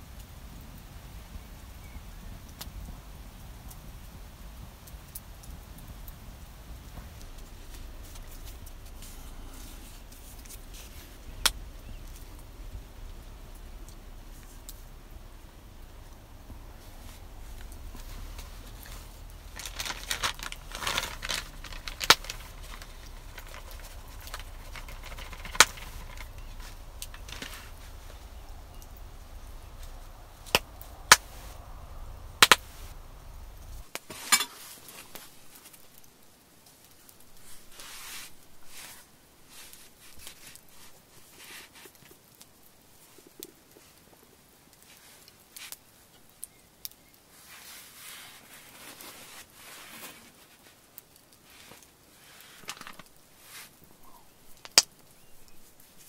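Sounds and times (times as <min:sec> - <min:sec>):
campfire crackling and popping: 0:00.0 - 0:56.0
hands kneading bread dough: 0:06.8 - 0:36.0, 0:37.3 - 0:56.0.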